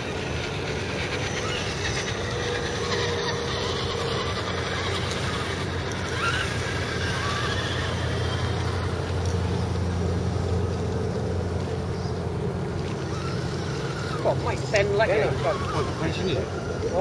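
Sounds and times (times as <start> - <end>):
electric toy truck motors whining: 0.0 - 17.0
steady low hum: 0.0 - 17.0.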